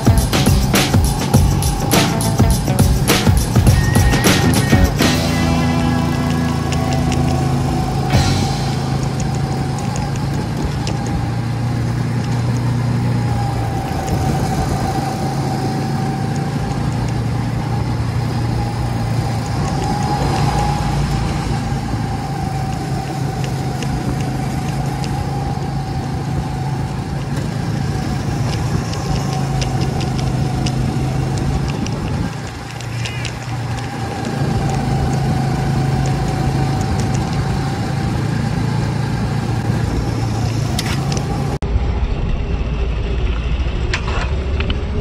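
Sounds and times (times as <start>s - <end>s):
go-kart engine running: 0.0s - 45.0s
road noise: 0.0s - 45.0s.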